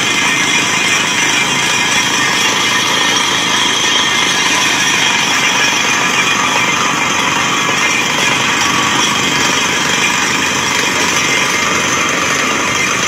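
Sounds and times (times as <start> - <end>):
air hammer drilling rock: 0.0 - 13.0
compressor and engine running: 0.0 - 13.0.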